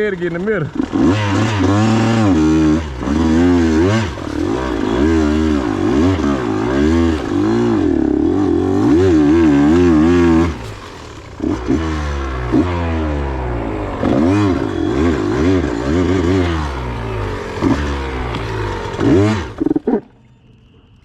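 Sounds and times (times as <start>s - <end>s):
dirt bike engine revving: 0.0s - 20.1s.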